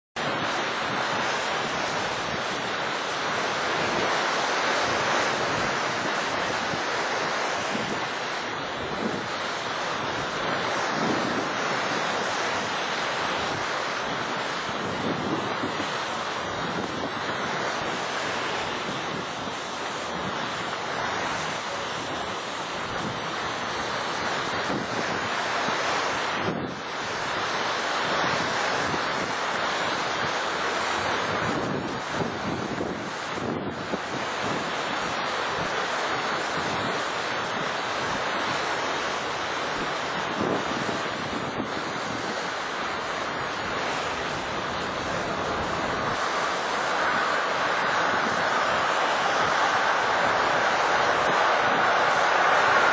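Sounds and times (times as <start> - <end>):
river water rushing: 0.2 - 52.9
wind on microphone: 0.2 - 52.9.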